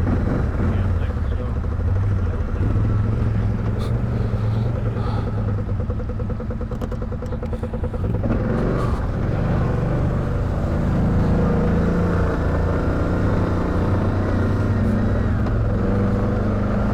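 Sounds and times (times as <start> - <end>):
atv engine running: 0.0 - 16.9.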